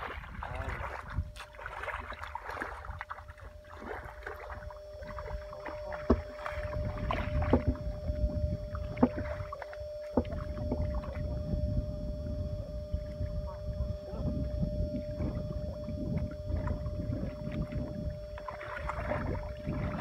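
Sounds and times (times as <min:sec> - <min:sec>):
faint steady hum: 0:00.0 - 0:20.0
wading through mud and water: 0:00.0 - 0:20.0.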